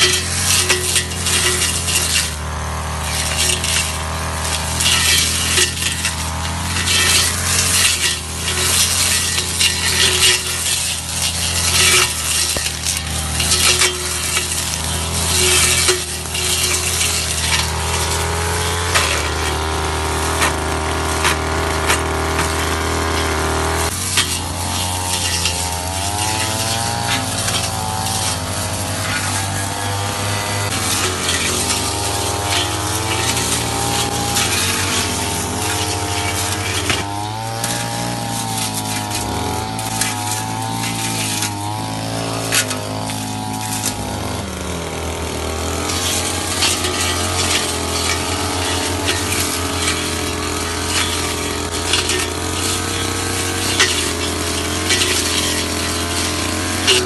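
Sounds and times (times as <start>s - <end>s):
crackle of cut stems: 0.0s - 30.1s, 30.7s - 44.2s, 45.6s - 57.0s
blade thrashing through grass: 0.0s - 44.4s, 45.7s - 57.0s
brush cutter engine running: 0.0s - 57.0s.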